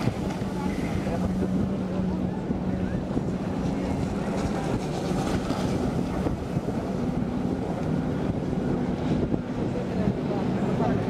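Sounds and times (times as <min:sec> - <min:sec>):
jet ski engines droning: 0:00.0 - 0:11.0
wind buffeting microphone: 0:00.0 - 0:11.0.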